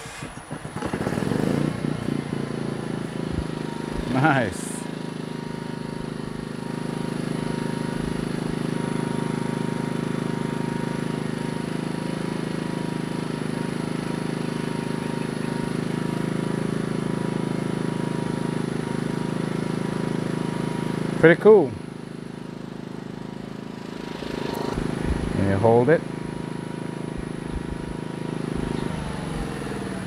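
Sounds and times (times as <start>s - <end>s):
generator engine hum: 0.0s - 30.0s.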